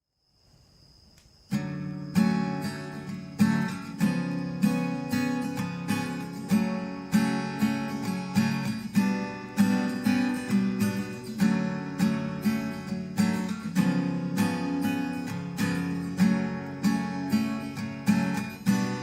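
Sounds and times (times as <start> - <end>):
acoustic guitar strumming: 1.5 - 19.0.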